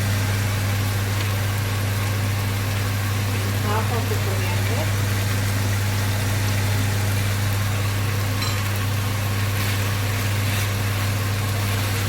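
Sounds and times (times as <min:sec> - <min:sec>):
food sizzling in a frying pan: 0:00.0 - 0:12.0
low motor hum: 0:00.0 - 0:12.0.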